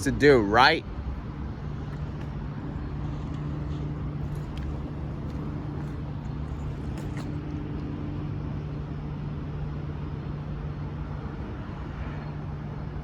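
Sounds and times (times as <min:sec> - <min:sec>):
outdoor traffic noise: 0:00.0 - 0:13.0
vehicle engine idling: 0:00.0 - 0:13.0.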